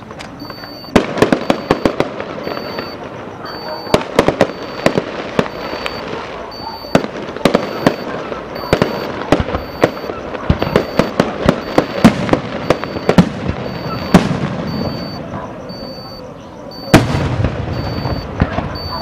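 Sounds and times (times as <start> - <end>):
fireworks crackle: 0.0 - 15.6, 16.9 - 19.0
fireworks bangs: 0.0 - 16.0, 16.7 - 19.0.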